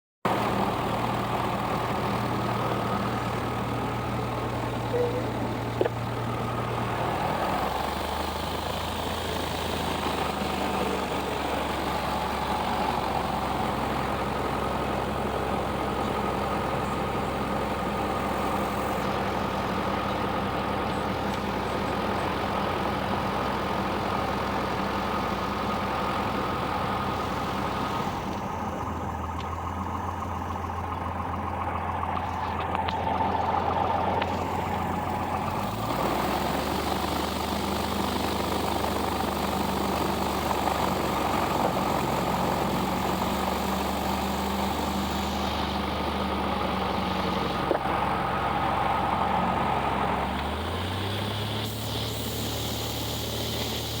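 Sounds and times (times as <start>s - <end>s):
piston engine and propeller: 0.2s - 54.0s.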